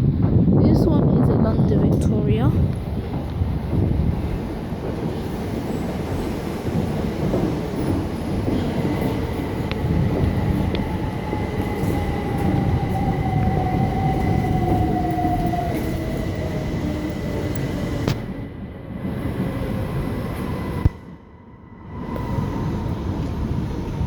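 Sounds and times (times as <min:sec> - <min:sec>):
train rail rumble: 0:00.0 - 0:24.0
train whine: 0:01.9 - 0:24.0.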